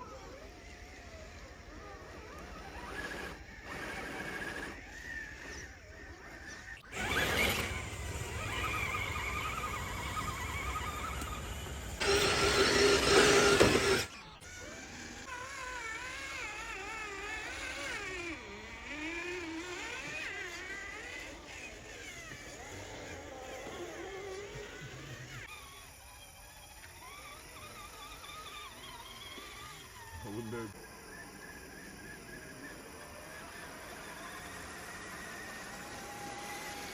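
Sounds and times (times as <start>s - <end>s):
toy car electric motor whining: 0.0s - 36.9s.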